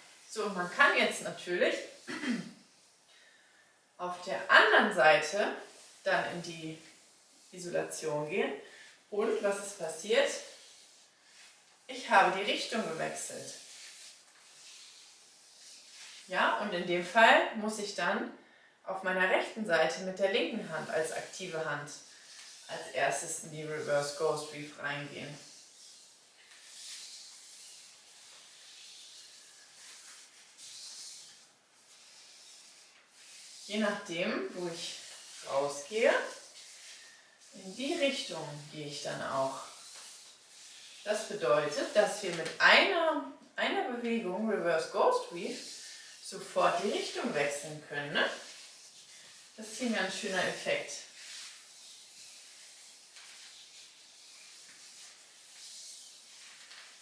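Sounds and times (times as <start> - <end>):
plastic hula hoop swishing: 0.0 - 3.0, 3.8 - 17.2, 20.5 - 43.0, 43.8 - 57.0.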